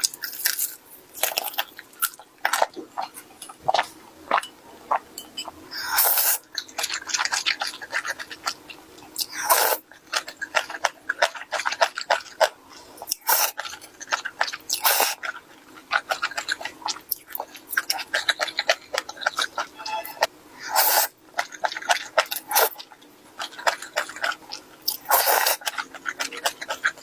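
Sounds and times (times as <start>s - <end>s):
chewing food: 0.0s - 27.0s.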